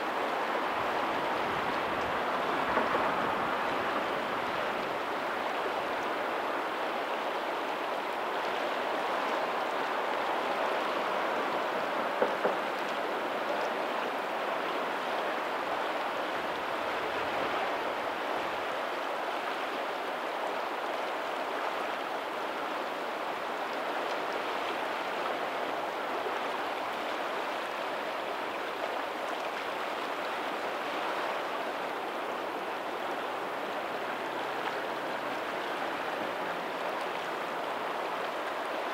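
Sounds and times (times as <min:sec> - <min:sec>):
faint ocean surf: 0:00.0 - 0:38.9
water rushing over pebbles: 0:00.0 - 0:38.9.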